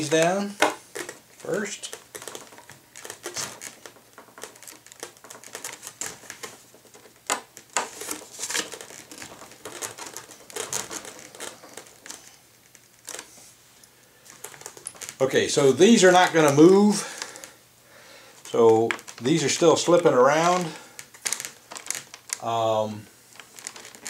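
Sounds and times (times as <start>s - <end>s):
foam wing handling: 0.0s - 17.6s, 18.3s - 24.0s.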